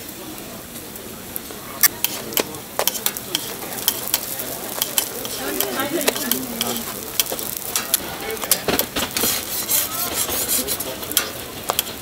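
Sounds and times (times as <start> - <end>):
pancakes sizzling in oil: 0.0 - 12.0
metal spatulas scraping griddle: 2.0 - 12.0.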